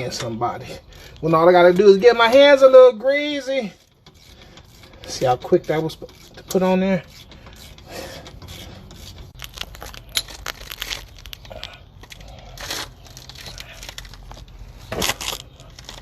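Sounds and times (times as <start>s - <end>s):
hand tools and metal parts clinking: 0.0s - 16.0s.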